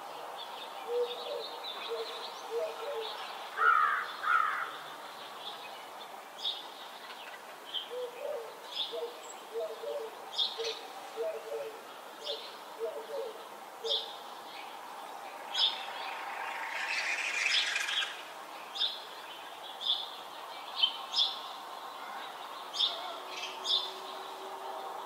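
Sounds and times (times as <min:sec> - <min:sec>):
birds singing and chirping: 0:00.2 - 0:25.0.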